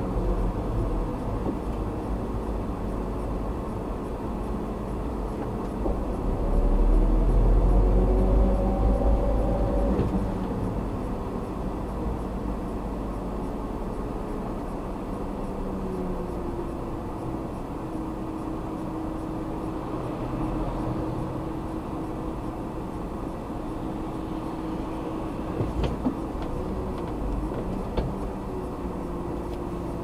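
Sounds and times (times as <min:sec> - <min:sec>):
car engine: 0:00.0 - 0:30.0
tyre road noise: 0:00.0 - 0:30.0.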